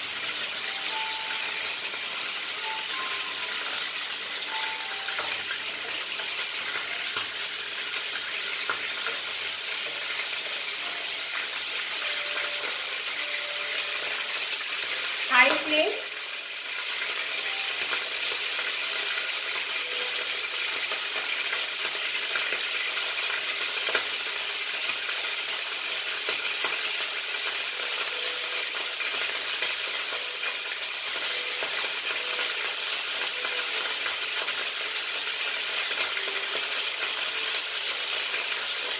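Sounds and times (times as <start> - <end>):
meat sizzling in oil: 0.0 - 38.9.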